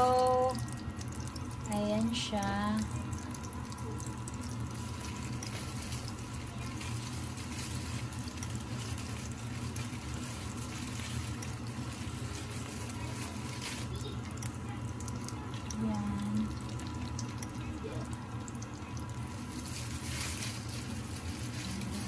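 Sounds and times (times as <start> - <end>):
fish sizzling in a frying pan: 0.0 - 22.0.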